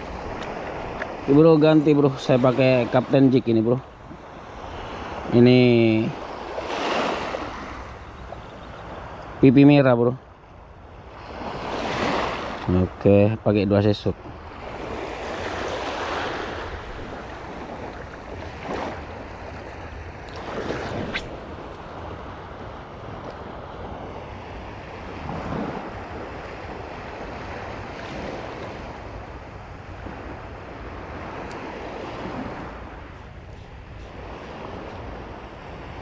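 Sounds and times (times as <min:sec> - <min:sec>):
wind on microphone: 0:00.0 - 0:09.5, 0:14.2 - 0:36.0
small waves lapping at shore: 0:00.0 - 0:36.0.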